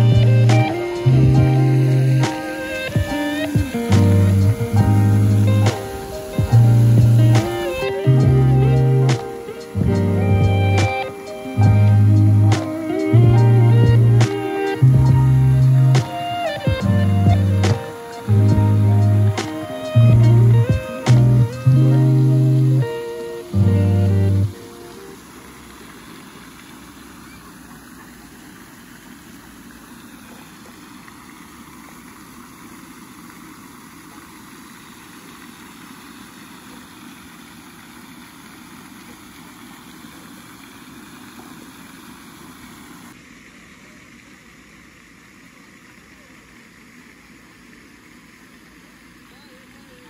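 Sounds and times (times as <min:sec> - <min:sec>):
fountain spray splashing: 0:00.0 - 0:50.0.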